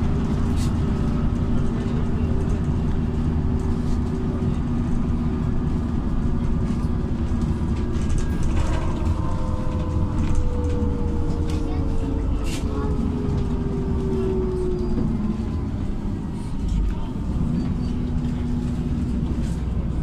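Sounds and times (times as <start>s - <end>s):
bus engine drone: 0.0s - 20.0s
tyres on the road: 0.0s - 20.0s.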